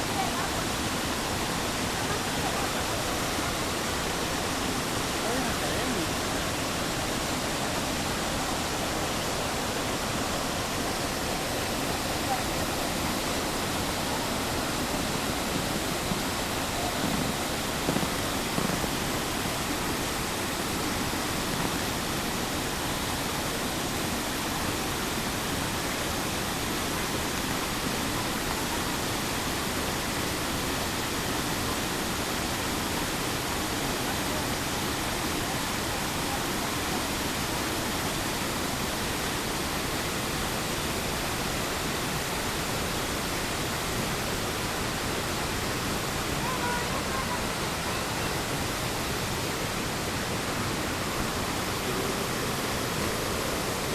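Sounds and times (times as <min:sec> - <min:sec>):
waterfall rushing into pool: 0:00.0 - 0:53.9.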